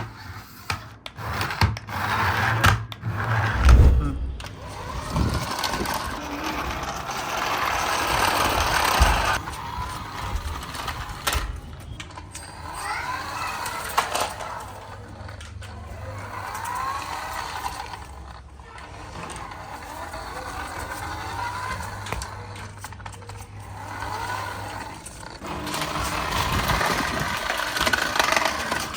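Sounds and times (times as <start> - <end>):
toy car electric motor whirring: 0.0 - 3.6, 4.5 - 28.9.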